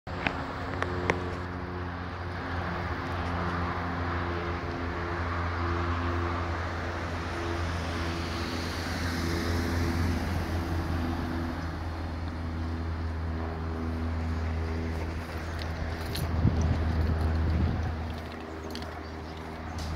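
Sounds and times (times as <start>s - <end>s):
car driving past: 1.0s - 19.9s.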